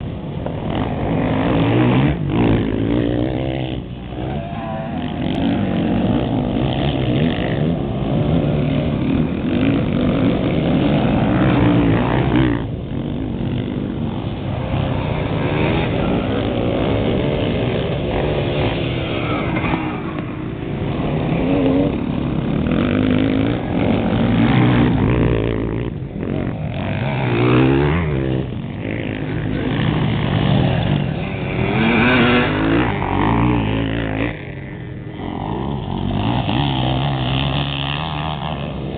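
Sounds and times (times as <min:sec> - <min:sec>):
motocross bikes revving past: 0:00.0 - 0:38.9.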